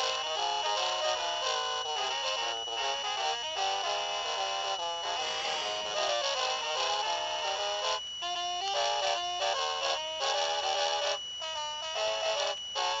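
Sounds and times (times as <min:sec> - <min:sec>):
electronic christmas tune: 0:00.0 - 0:11.2
faint high whine: 0:00.0 - 0:13.0.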